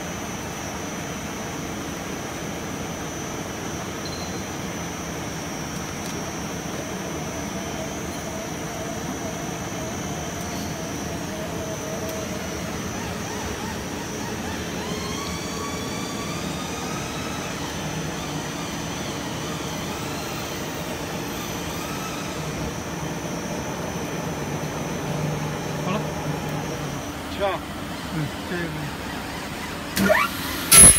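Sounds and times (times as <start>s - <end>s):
machine running with high whine: 0.0s - 30.9s.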